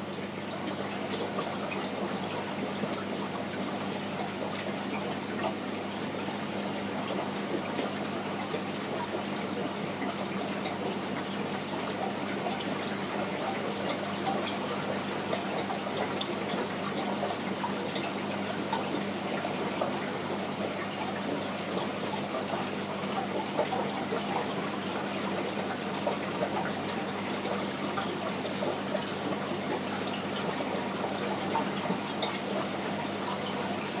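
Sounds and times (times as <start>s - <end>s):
aquarium water trickling: 0.0s - 34.0s.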